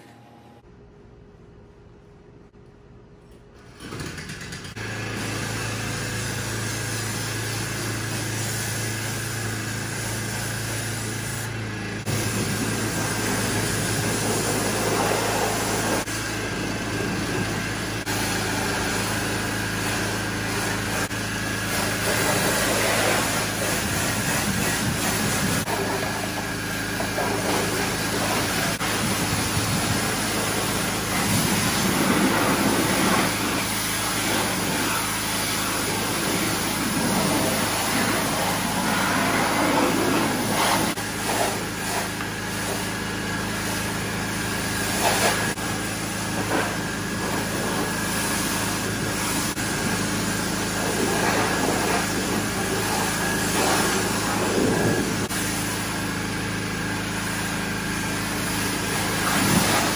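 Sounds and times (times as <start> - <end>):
pressure washer running: 3.6 - 59.9
water jet hissing on car: 6.4 - 59.9.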